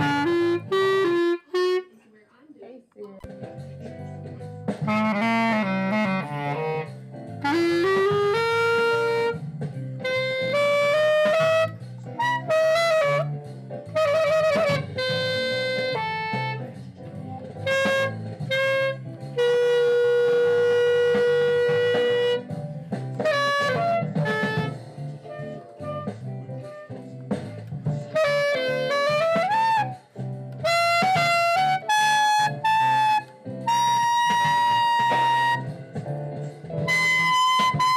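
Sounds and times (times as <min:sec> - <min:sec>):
clarinet playing melodic phrases: 0:00.0 - 0:02.0, 0:04.7 - 0:35.8, 0:36.7 - 0:37.9.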